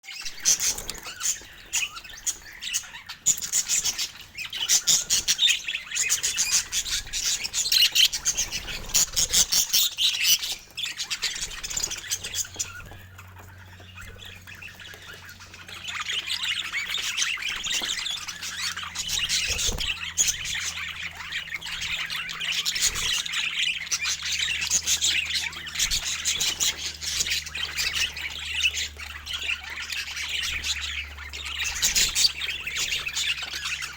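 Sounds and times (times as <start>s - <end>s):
budgerigars chattering and chirping: 0.0s - 33.9s
faint low hum: 0.2s - 33.9s.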